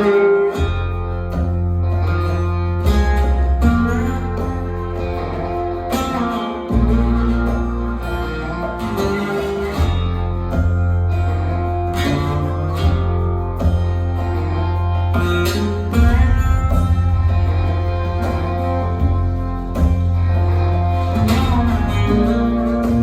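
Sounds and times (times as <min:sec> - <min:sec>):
plucked strings: 0:00.0 - 0:23.0
deep bass line: 0:00.6 - 0:23.0.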